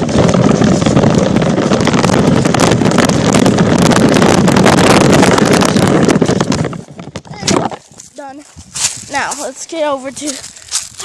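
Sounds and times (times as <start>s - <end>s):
wind on camera microphone: 0.0s - 11.0s.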